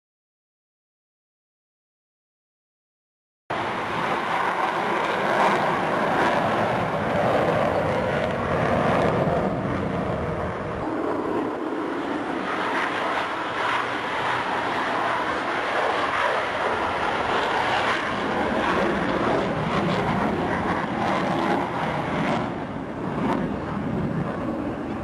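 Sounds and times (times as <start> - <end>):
jet engines flying low: 3.5 - 25.0.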